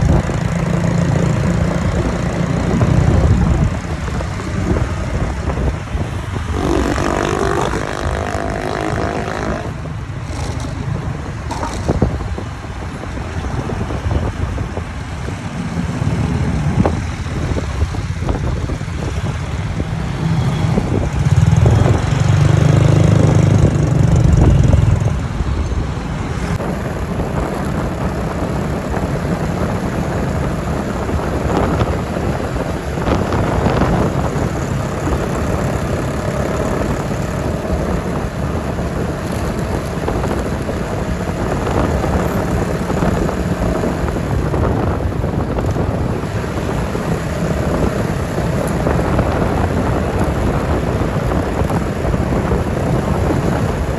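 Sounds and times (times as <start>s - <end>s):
motorbike engine: 0.0s - 53.9s.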